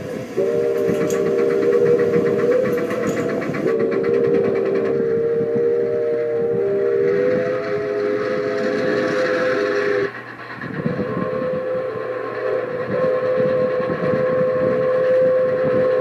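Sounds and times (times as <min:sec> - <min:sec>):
toy train clattering on track: 0:00.0 - 0:05.5, 0:06.4 - 0:16.0
toy train whistle: 0:00.0 - 0:16.0.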